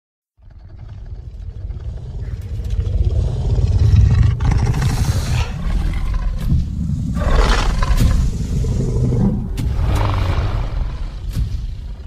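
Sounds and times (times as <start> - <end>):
creature growling: 0.4 - 11.2.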